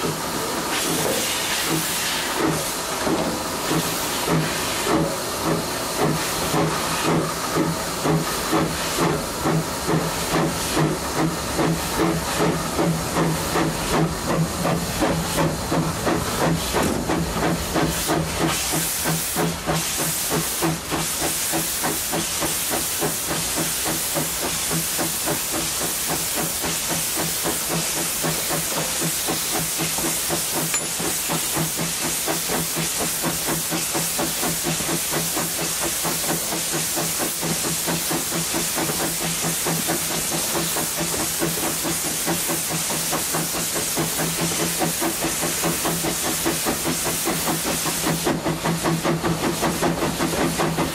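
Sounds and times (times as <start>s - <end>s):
steam hissing: 0.0s - 50.9s
steam locomotive chuffing: 0.0s - 50.9s.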